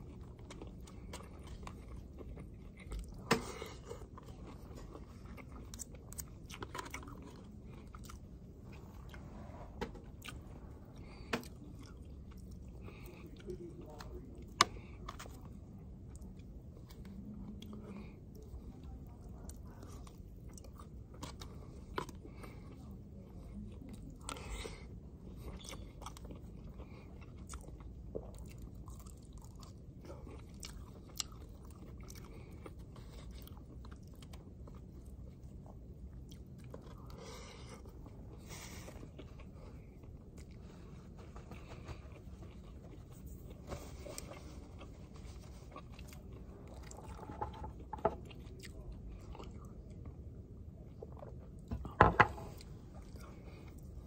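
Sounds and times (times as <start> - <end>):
low background hum: 0.0 - 54.0
man chewing food: 0.0 - 54.0.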